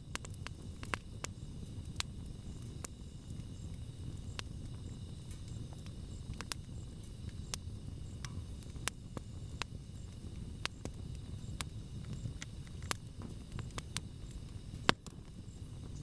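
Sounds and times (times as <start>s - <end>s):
burning wood crackling and popping: 0.0s - 16.0s
campfire flame rushing: 0.0s - 16.0s.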